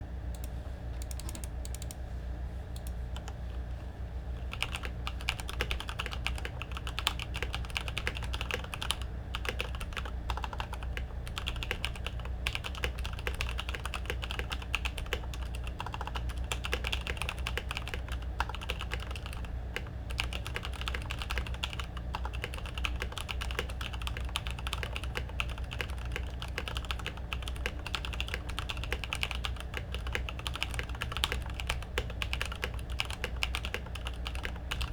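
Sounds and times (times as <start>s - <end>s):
steady low hum: 0.0s - 34.9s
typing on mechanical keyboard: 4.5s - 34.9s.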